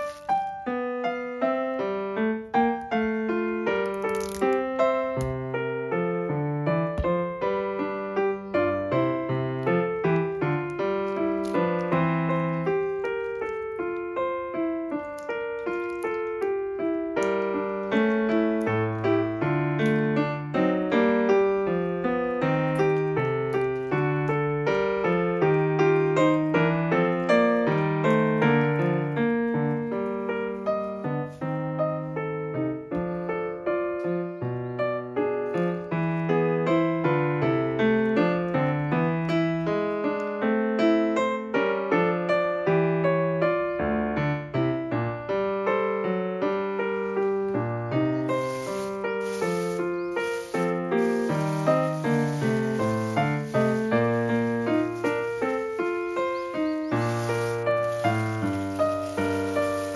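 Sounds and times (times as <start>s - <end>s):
background piano music: 0.0s - 59.9s.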